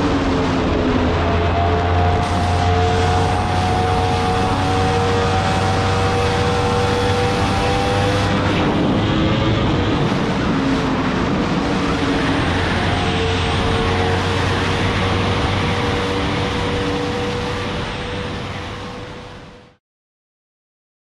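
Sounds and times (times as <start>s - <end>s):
motorcycle engine cruising: 0.0s - 19.4s
wind noise: 0.0s - 19.7s.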